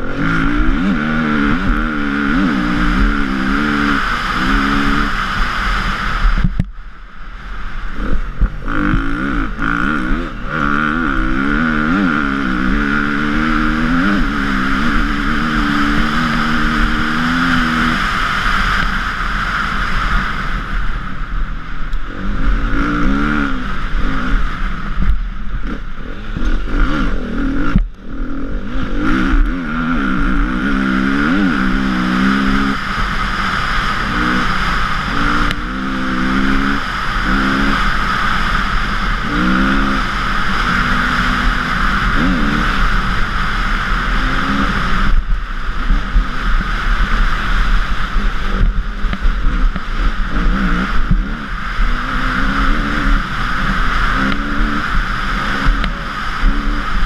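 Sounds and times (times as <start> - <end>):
dirt bike engine revving: 0.0 - 6.6, 7.4 - 57.0
steady rushing noise: 0.0 - 57.0.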